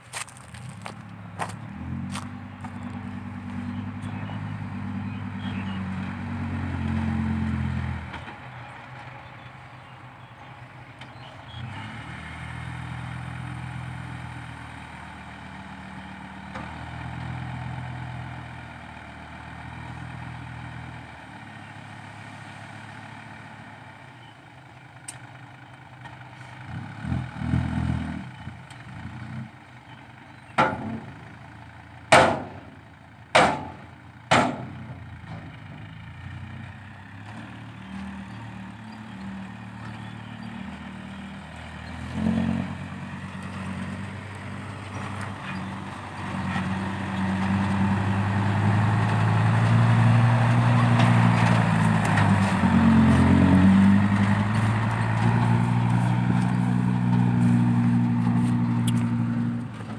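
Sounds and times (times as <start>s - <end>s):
diesel truck engine revving: 0.2s - 24.3s, 26.4s - 30.0s, 30.7s - 59.9s.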